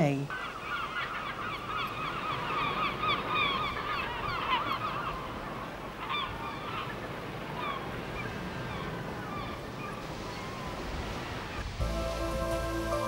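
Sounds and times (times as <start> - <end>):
flock of birds calling: 0.3 - 10.8.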